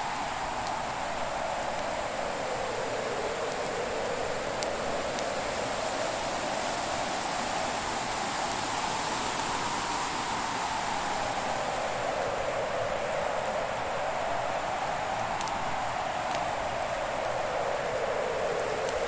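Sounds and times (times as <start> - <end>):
fire crackles: 0.0 - 19.0.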